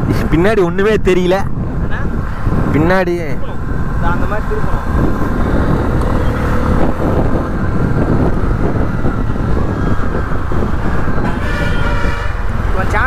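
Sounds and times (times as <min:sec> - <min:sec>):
road noise: 0:00.0 - 0:13.0
wind rushing over microphone: 0:00.0 - 0:13.0
motorcycle engine: 0:02.0 - 0:13.0.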